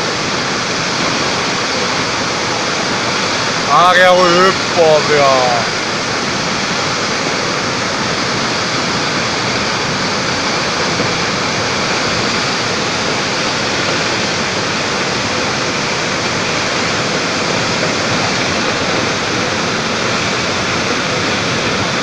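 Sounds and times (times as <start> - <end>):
floodwater rushing down rocks: 0.0 - 22.0.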